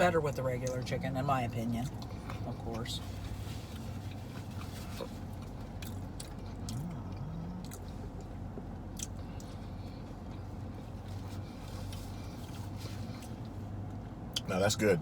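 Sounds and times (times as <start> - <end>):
steady low hum: 0.0 - 15.0
person chewing food: 1.8 - 14.5.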